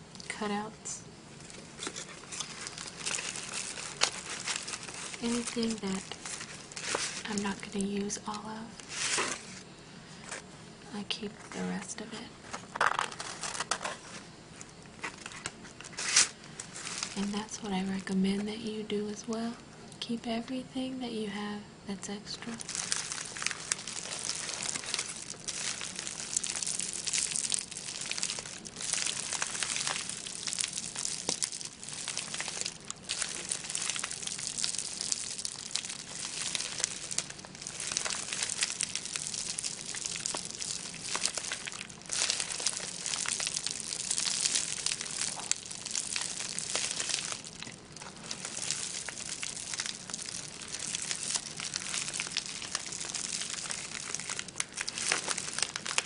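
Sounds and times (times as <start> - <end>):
paper rustling and crinkling: 1.4 - 10.5, 12.4 - 17.6, 22.5 - 56.0.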